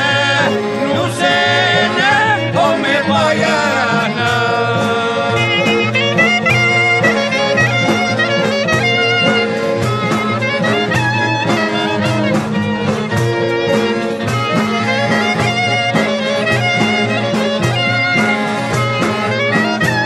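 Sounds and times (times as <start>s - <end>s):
accordion chords: 0.0s - 20.0s
steady drum beat: 0.0s - 20.0s
wind instrument melody: 0.0s - 20.0s.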